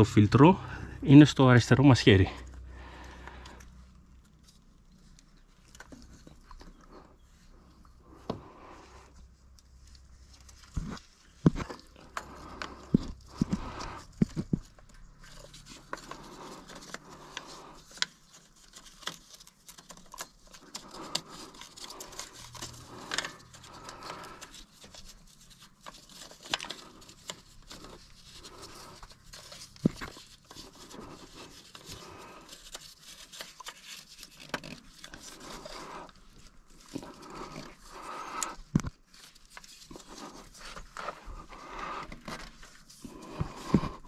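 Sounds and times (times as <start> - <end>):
hands handling parts and tools: 1.3 - 44.0
rustling: 1.8 - 44.0.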